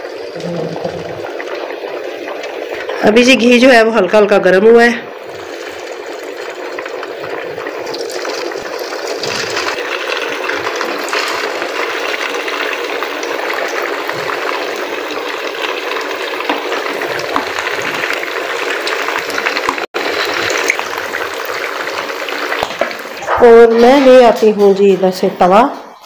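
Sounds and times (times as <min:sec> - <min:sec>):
kebabs sizzling in a frying pan: 0:00.0 - 0:25.7.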